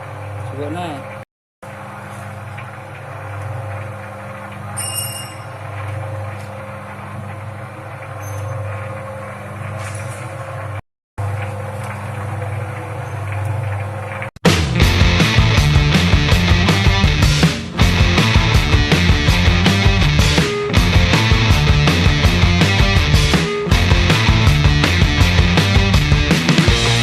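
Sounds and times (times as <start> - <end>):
coating drum machine humming: 0.0 - 4.8, 5.5 - 27.0.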